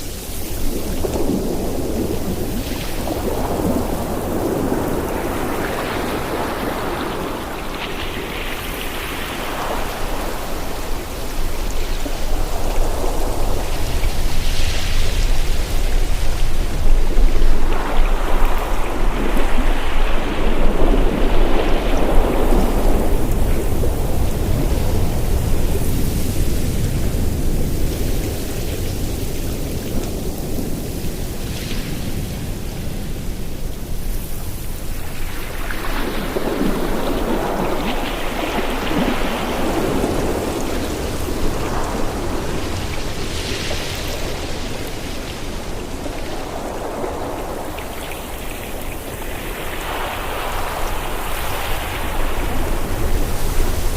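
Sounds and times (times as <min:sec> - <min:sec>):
low wind rumble: 0:00.0 - 0:53.9
ocean surf washing in: 0:00.0 - 0:53.9.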